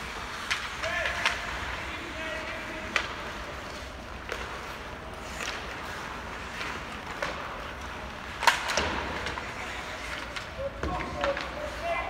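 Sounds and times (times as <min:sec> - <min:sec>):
knocks of sticks puck and boards: 0:00.0 - 0:12.0
rink background hum: 0:00.0 - 0:12.0.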